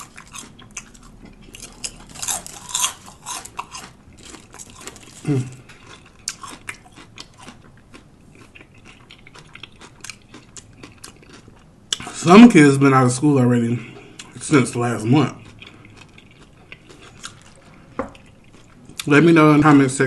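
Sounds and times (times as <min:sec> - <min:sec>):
crunchy chewing of sandwich: 0:00.0 - 0:12.2, 0:14.0 - 0:19.1.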